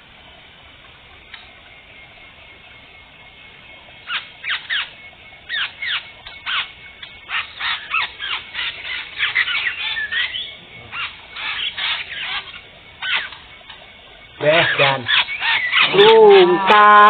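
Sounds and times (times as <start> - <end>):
birds giving harsh calls: 1.0 - 17.0.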